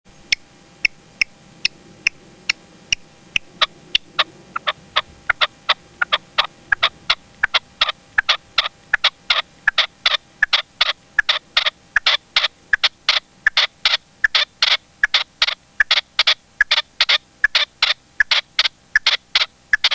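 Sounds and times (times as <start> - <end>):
partridge calling: 0.3 - 19.9.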